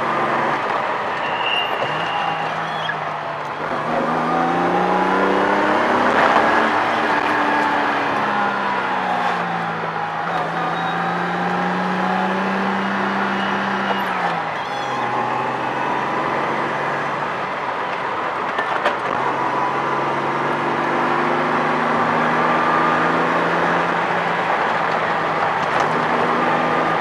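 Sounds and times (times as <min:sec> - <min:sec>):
car engine accelerating uphill: 0:00.0 - 0:01.2, 0:01.8 - 0:27.0
road and tyre noise: 0:00.0 - 0:27.0.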